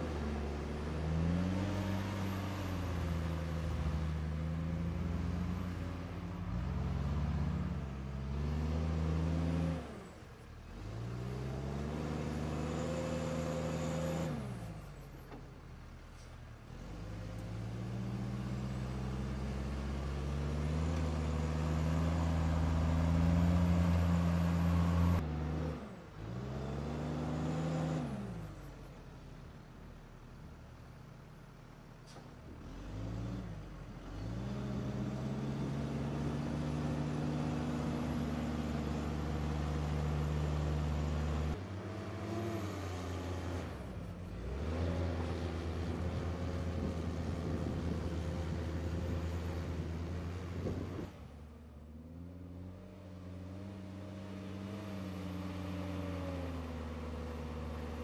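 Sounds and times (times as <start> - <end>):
diesel engine revving: 0.0 - 15.0, 16.6 - 28.7, 32.4 - 58.0.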